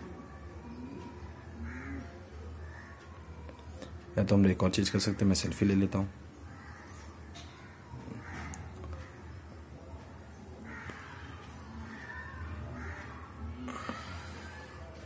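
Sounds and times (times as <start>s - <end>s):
harsh bird calls: 0.1s - 3.2s, 5.9s - 15.0s.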